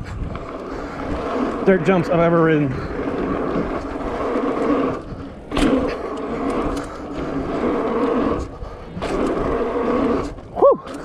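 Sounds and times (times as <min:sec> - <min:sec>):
bike tyres rolling on dirt: 0:00.0 - 0:11.0
wind on microphone: 0:00.0 - 0:11.0.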